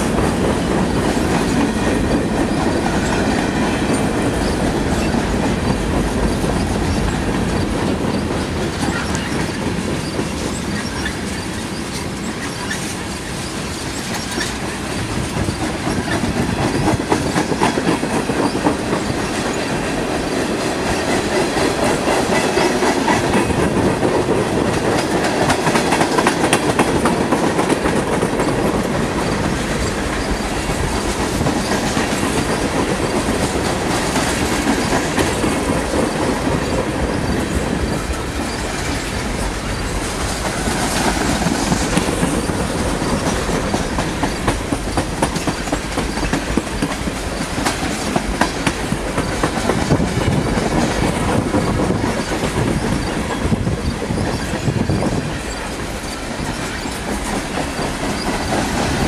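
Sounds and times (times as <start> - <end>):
train wheels rumbling: 0.0 - 59.0
wheels clicking over rail joints: 0.0 - 59.0.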